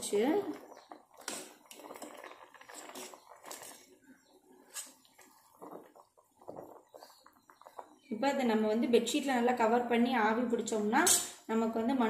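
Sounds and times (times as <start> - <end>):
pot bubbling: 0.0 - 12.0.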